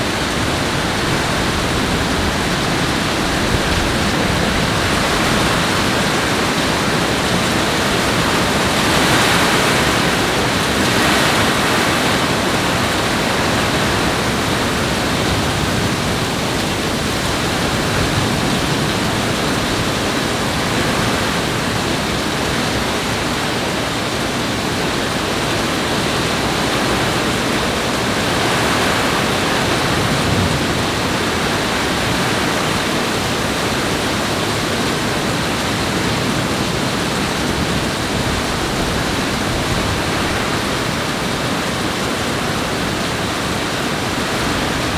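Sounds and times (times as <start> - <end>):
rush of falling water: 0.0 - 44.9.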